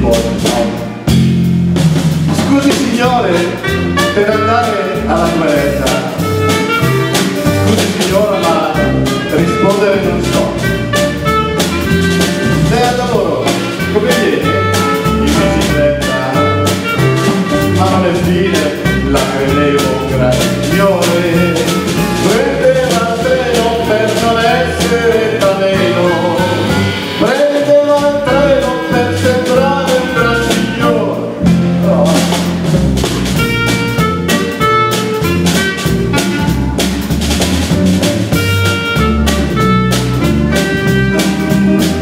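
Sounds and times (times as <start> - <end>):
clarinet melody: 0.0 - 42.0
jazz-blues band playing: 0.0 - 42.0.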